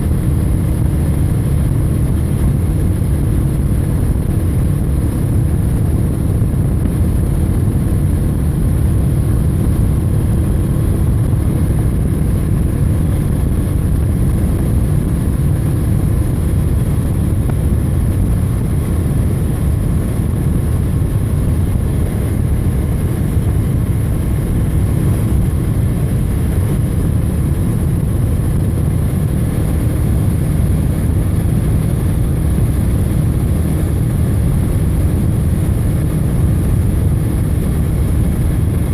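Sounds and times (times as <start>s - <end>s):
low steady drone: 0.0s - 38.9s
road noise: 0.0s - 38.9s
wind rush: 0.0s - 38.9s.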